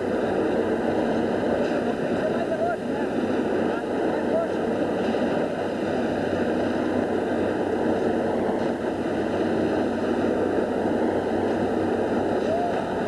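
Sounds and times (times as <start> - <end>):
track maintenance machine running: 0.0 - 13.0.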